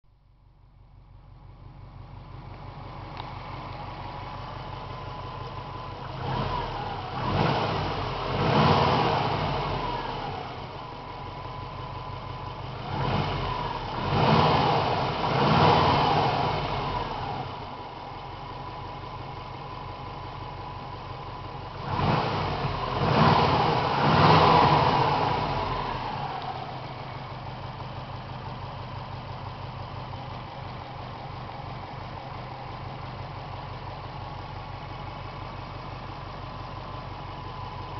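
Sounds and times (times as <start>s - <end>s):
car engine idling and revving: 0.1s - 37.9s.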